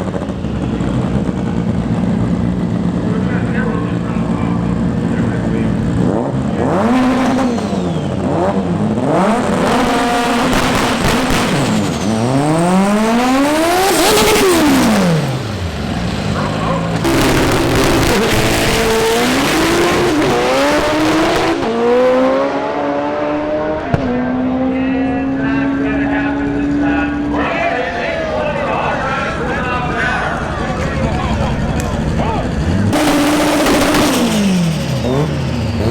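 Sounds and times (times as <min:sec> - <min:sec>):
drag cars accelerating hard: 0:00.0 - 0:35.9.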